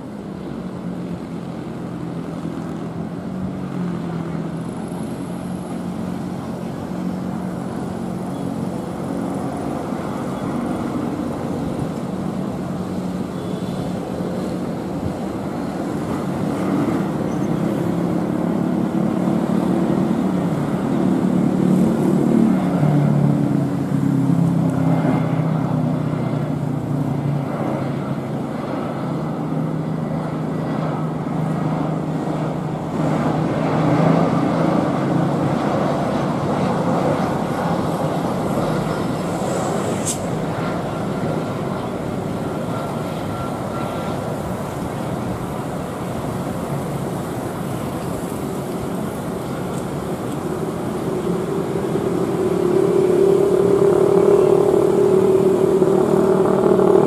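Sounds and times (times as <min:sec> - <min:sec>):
jet engines rumbling: 0:00.0 - 0:57.0
low drone: 0:00.0 - 0:57.0.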